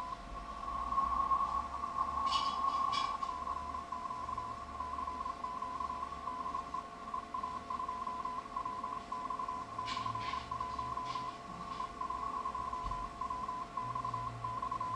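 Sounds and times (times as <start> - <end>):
morse code tone: 0.0 - 14.9
radio band hiss: 0.0 - 14.9
weak steady tones: 0.0 - 14.9.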